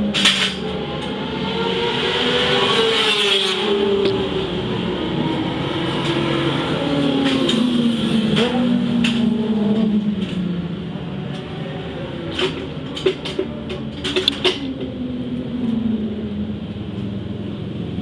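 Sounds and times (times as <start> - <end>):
vehicle engine: 0.0 - 18.0.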